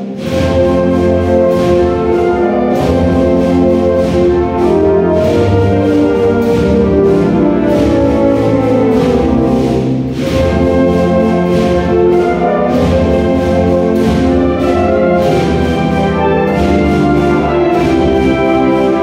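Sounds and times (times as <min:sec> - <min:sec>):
wind band playing a march: 0:00.0 - 0:19.0.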